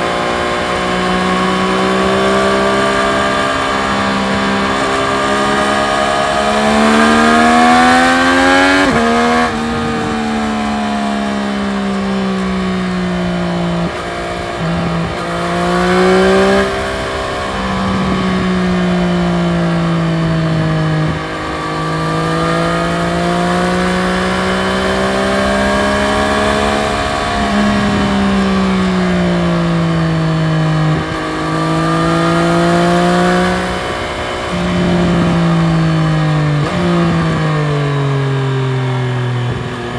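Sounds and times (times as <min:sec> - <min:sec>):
gear changes: 0:00.0 - 0:39.9
motorcycle engine revving: 0:00.0 - 0:39.9.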